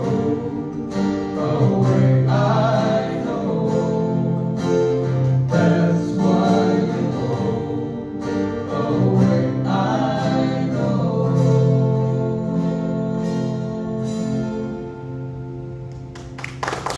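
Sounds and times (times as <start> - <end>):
voices singing together: 0.0 - 14.8
acoustic guitars strummed: 0.0 - 16.4
bass: 0.0 - 16.9.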